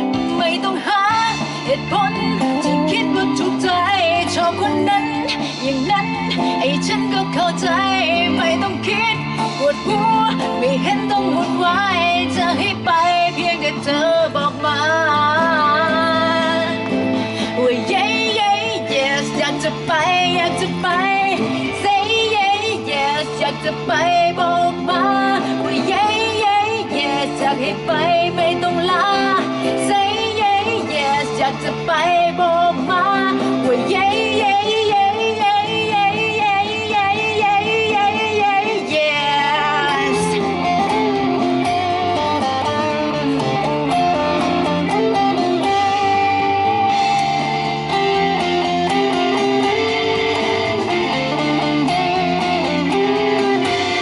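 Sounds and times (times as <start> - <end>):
electric guitar: 0.0 - 54.0
woman singing into microphone: 0.0 - 54.0.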